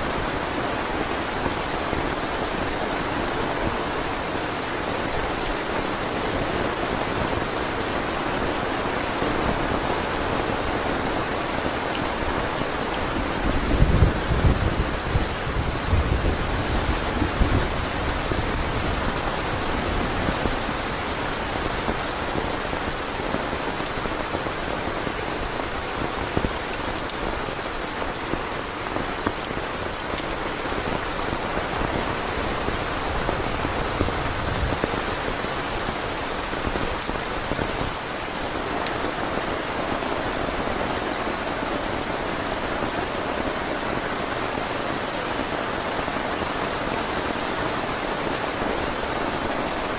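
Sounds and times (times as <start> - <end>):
heavy rain on a tent: 0.0 - 49.9.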